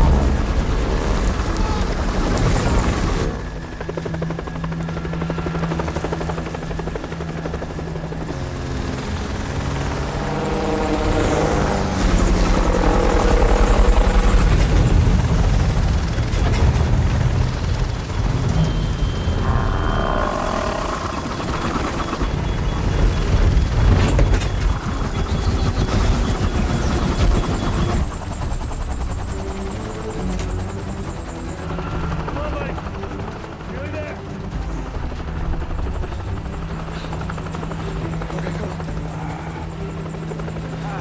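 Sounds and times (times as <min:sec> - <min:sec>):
helicopter rotor and engine: 0:00.0 - 0:41.0.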